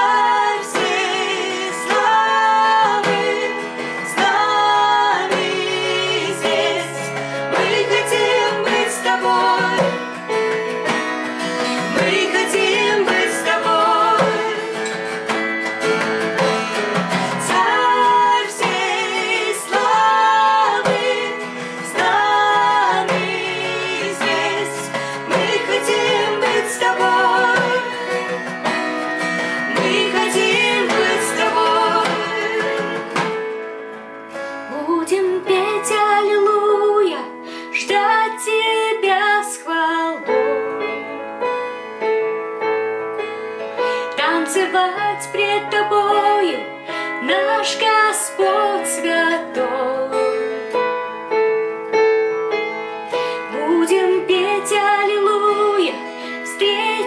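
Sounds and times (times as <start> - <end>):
woman singing: 0.0 - 10.3, 11.6 - 15.4, 16.4 - 28.8, 29.4 - 33.5, 34.7 - 41.4, 44.0 - 50.5, 53.2 - 57.0
acoustic guitar: 0.0 - 57.0
keyboard: 0.0 - 57.0.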